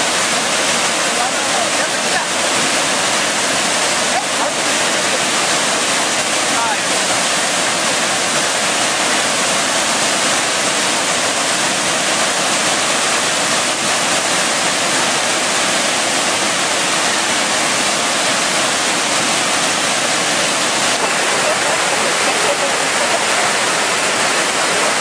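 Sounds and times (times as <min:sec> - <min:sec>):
waterfall rushing over boulders: 0:00.0 - 0:25.0.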